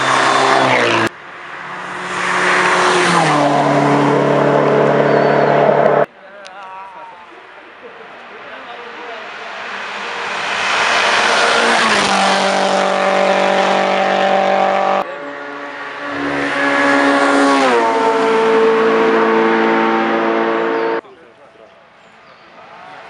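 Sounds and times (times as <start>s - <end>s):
race car passing at full throttle: 0.0s - 6.1s, 7.7s - 21.0s.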